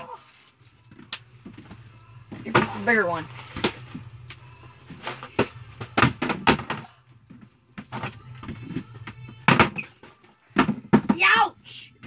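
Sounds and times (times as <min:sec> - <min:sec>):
objects knocking and thumping: 0:00.9 - 0:04.2, 0:04.9 - 0:11.5.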